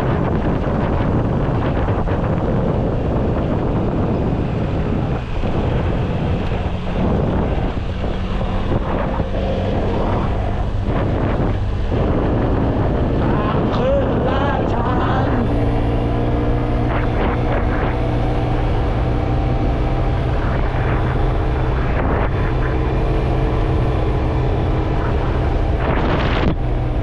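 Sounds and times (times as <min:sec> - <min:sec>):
vehicle engine running: 0:00.0 - 0:27.0
wind buffeting microphone: 0:00.0 - 0:27.0.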